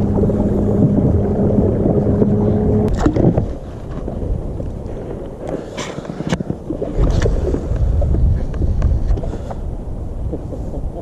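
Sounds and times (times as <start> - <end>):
water splashes: 0.0 - 11.0
wind buffeting microphone: 0.0 - 11.0.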